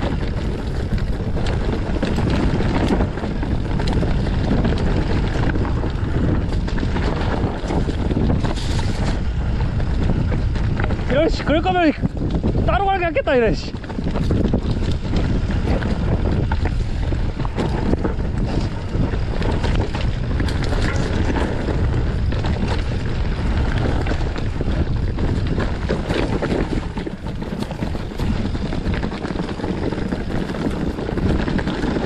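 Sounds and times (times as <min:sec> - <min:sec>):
bike rattling on rough trail: 0:00.0 - 0:32.0
wind rushing over microphone: 0:00.0 - 0:32.0.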